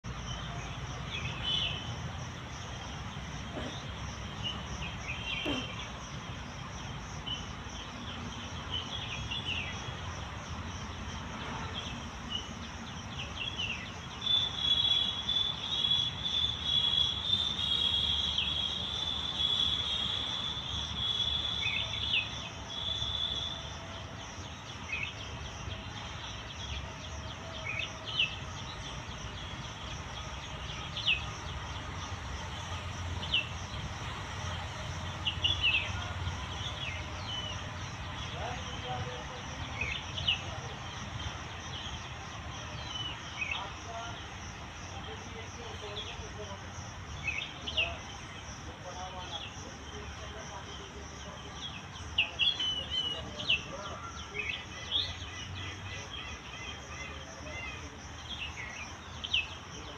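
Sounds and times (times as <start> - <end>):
insect drone: 0.1 - 59.9.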